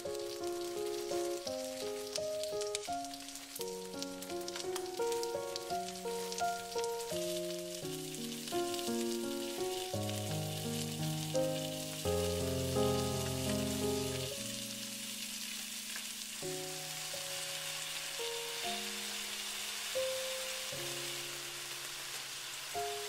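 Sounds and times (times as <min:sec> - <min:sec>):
background music of held notes: 0:00.0 - 0:21.2
fish sizzling in frying pan: 0:00.0 - 0:23.0.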